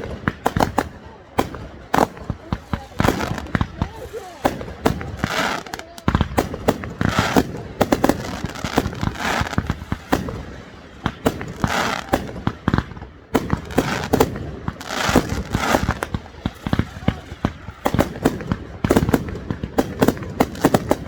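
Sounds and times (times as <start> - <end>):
fireworks booming: 0.0 - 21.0
fireworks crackling: 0.0 - 21.0.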